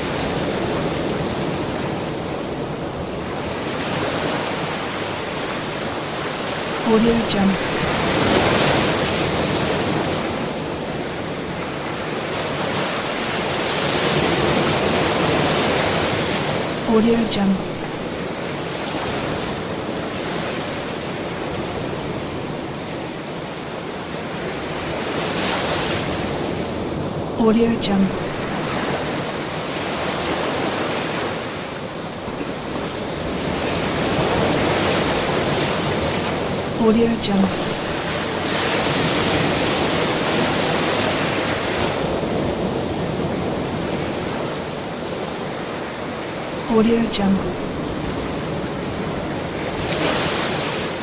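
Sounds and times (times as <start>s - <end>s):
ocean surf washing on shore: 0.0s - 51.0s.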